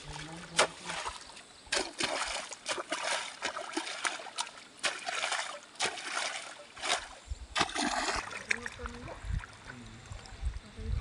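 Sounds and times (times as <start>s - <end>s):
muddy water splashing: 0.0s - 11.0s.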